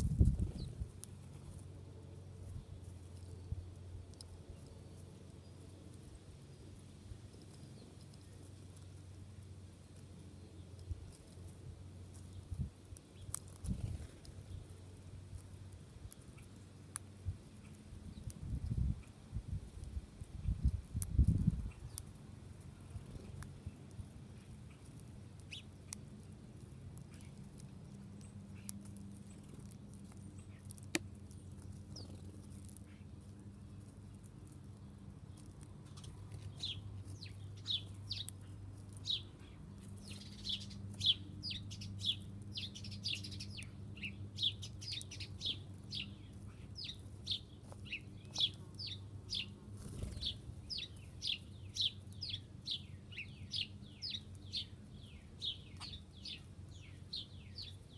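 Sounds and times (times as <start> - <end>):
small songbird chirping: 0.0 - 57.9.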